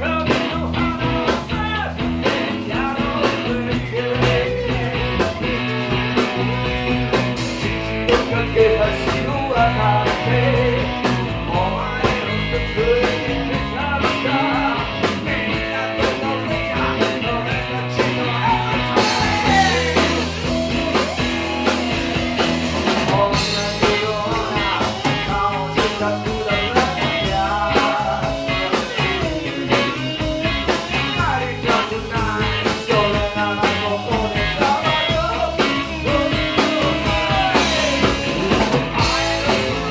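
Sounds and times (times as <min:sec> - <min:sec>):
rock song with guitar: 0:00.0 - 0:39.9.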